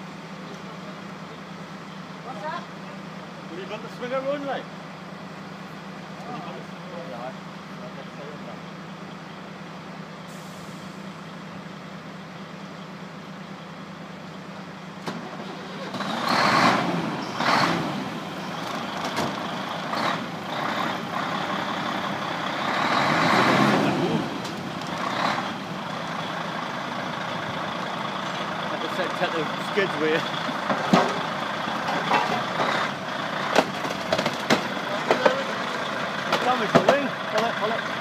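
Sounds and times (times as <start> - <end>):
heavy truck engine running: 0.0 - 38.0.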